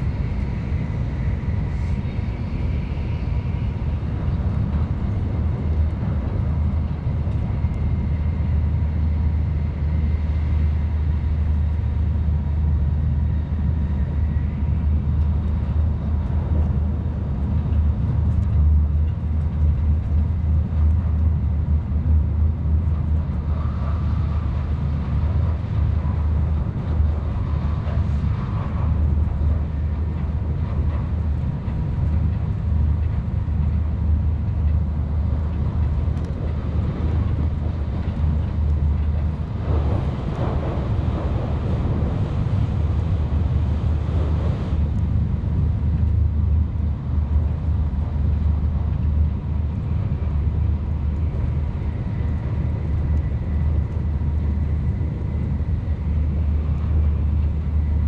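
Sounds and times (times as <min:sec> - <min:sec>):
train cabin low rumble: 0:00.0 - 0:58.0.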